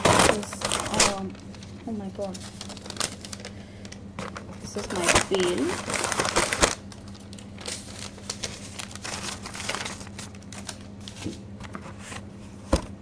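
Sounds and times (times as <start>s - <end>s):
packing crinkling and rustling: 0.0s - 12.6s.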